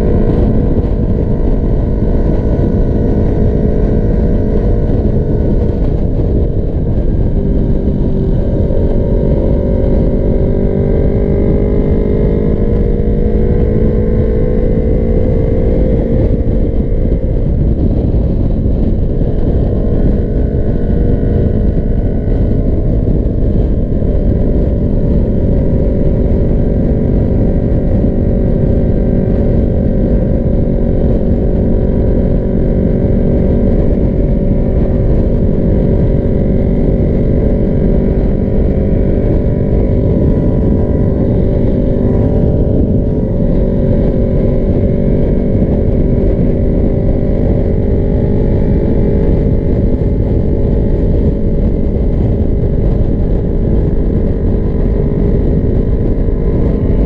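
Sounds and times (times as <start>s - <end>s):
motorcycle engine cruising: 0.0s - 57.0s
wind and road noise: 0.0s - 57.0s.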